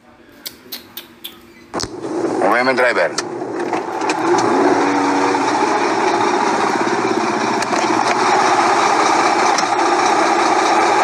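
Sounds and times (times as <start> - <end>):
car engine running: 1.8 - 11.0.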